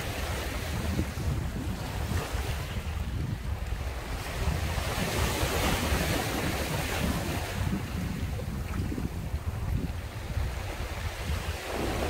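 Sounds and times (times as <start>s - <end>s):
sea waves washing in: 0.0s - 12.0s
wind rumble on microphone: 0.0s - 12.0s.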